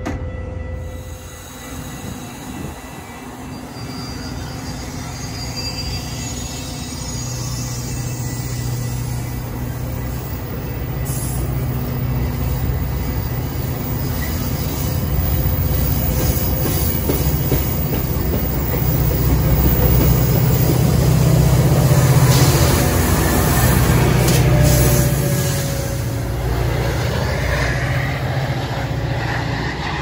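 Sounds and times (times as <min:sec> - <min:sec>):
diesel locomotive engine hum: 0:00.0 - 0:30.0
train wheel and rail noise: 0:00.0 - 0:30.0.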